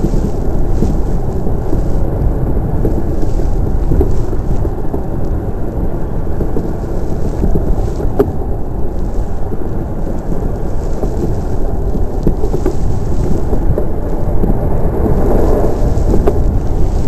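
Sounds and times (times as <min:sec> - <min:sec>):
iceboat runners on ice: 0:00.0 - 0:17.0
wind buffeting microphone: 0:00.0 - 0:17.0.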